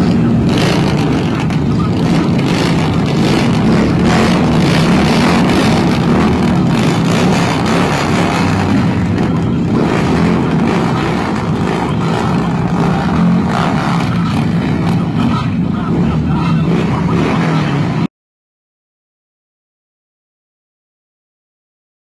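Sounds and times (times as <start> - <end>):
motorcycle engines running: 0.0 - 18.1.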